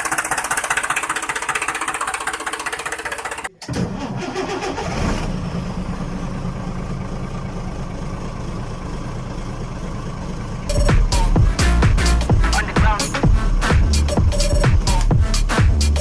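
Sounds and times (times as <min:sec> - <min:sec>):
motor starting and idling: 0:00.0 - 0:15.4.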